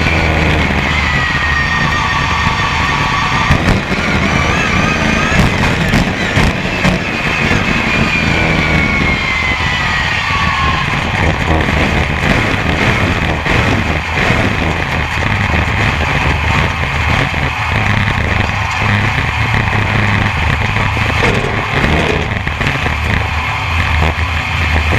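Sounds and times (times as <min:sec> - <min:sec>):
high whine falling in pitch: 0:00.0 - 0:24.9
stock car engine racing: 0:00.0 - 0:24.9
track and wind noise: 0:00.0 - 0:24.9.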